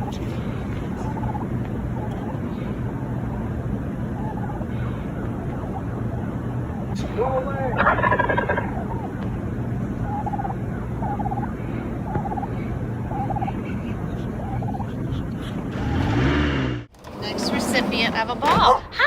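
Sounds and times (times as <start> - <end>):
turkey gobbling: 0.0 - 16.2
steady low hum: 0.0 - 18.3.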